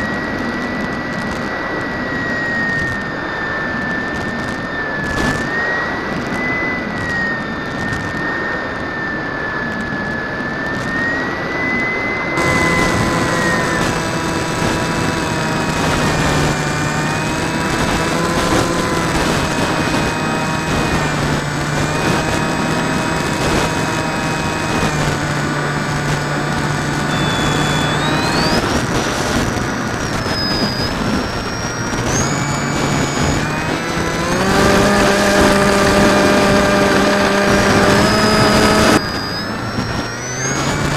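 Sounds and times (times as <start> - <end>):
aircraft engine and propeller: 0.0 - 40.9
wind noise: 0.0 - 40.9.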